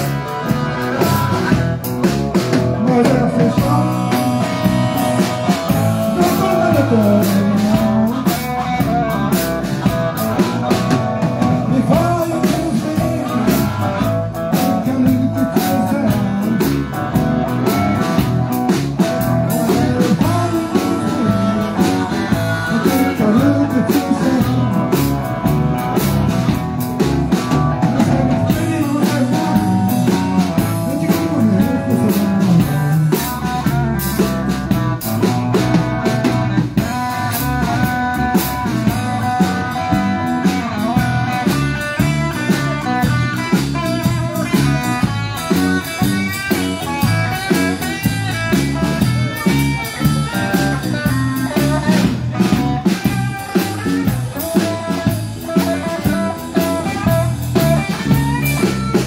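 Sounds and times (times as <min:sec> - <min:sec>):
drum kit beat: 0:00.0 - 0:59.0
electric guitars: 0:00.0 - 0:59.0.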